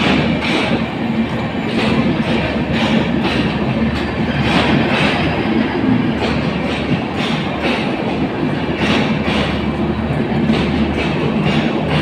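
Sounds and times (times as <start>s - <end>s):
train coaches rumbling past: 0.0s - 12.0s
wheels clattering over rail joints: 0.0s - 12.0s.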